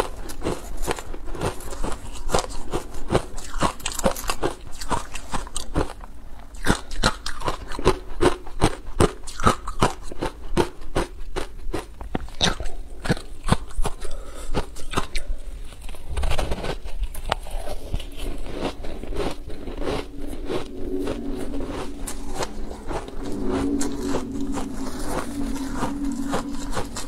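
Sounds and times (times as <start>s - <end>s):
person chewing crunchy ice: 0.0s - 27.0s.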